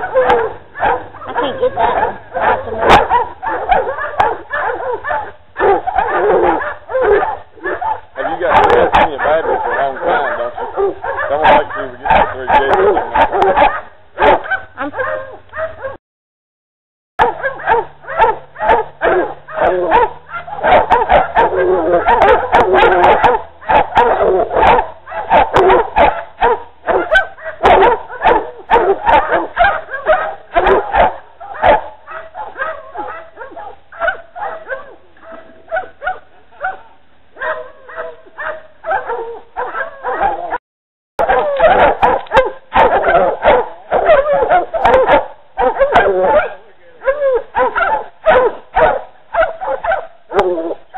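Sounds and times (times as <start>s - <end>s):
dogs barking and yelping: 0.0s - 16.0s, 17.2s - 40.6s, 41.2s - 50.9s.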